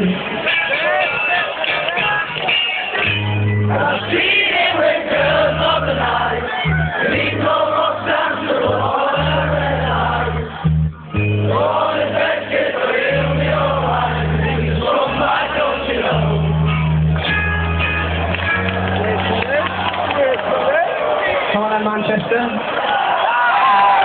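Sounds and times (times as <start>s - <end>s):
indie rock band playing live: 0.0s - 19.9s.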